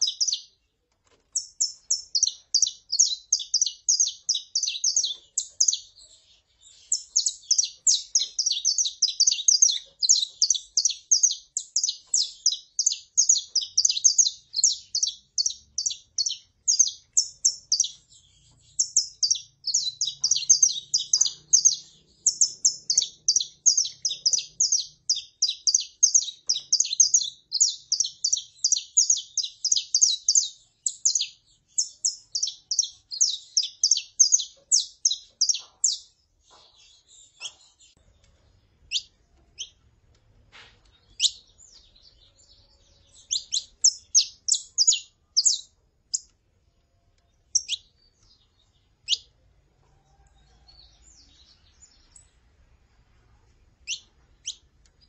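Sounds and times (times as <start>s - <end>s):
finches chirping: 0.0s - 0.6s, 1.3s - 39.8s, 41.0s - 46.3s, 47.4s - 49.3s, 53.8s - 55.0s.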